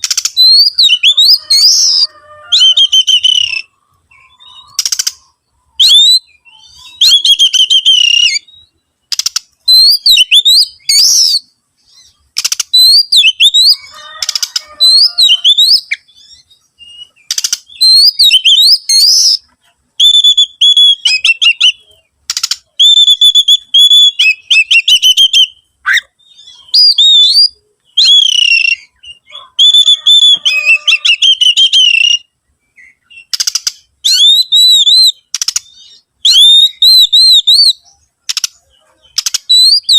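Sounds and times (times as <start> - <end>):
bird singing whistled phrases: 0.2 - 4.9, 5.8 - 13.9, 14.8 - 19.4, 20.0 - 22.0, 22.7 - 37.9, 39.1 - 39.9.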